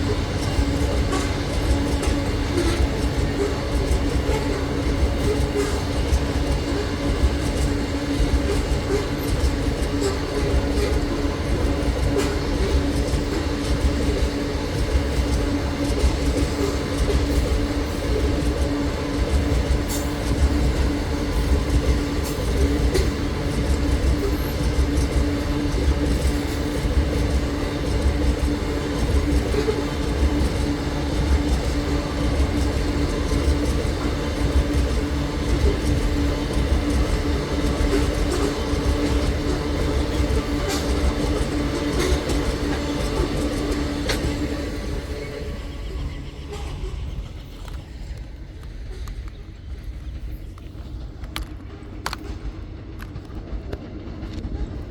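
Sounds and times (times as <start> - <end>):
wheel clicks on rails: 0.0 - 45.2
freight train rumbling: 0.0 - 54.9.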